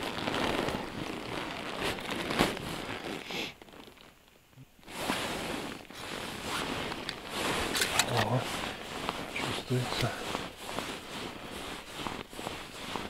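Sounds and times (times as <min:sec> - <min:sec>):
clothing and gear rustling: 0:00.0 - 0:13.0.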